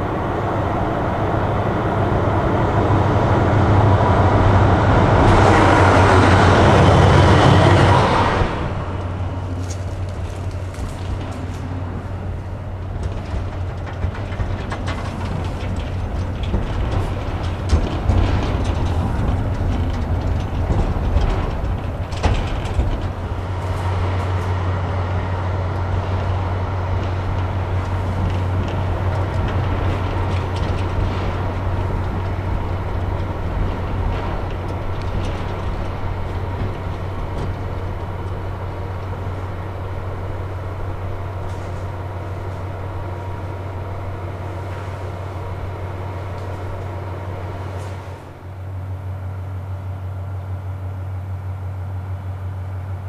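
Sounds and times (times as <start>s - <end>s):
diesel engine drone: 0.0s - 53.0s
rail noise: 0.0s - 53.0s.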